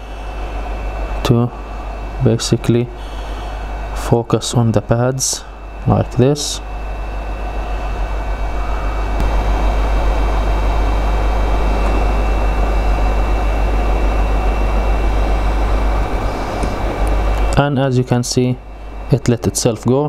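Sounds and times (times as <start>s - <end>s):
fan motor hum: 0.0s - 20.0s
hot air station blowing: 0.0s - 20.0s.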